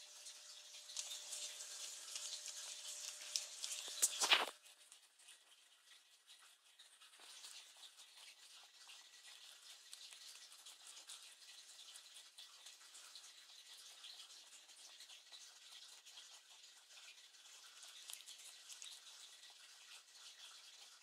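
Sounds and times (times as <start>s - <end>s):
rabbit munching leaves: 0.0s - 21.0s.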